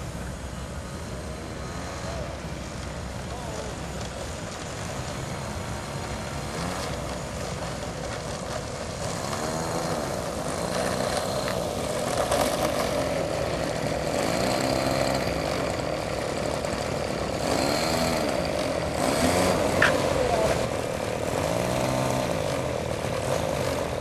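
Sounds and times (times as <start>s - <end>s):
model airplane gas engine running: 0.0s - 24.0s.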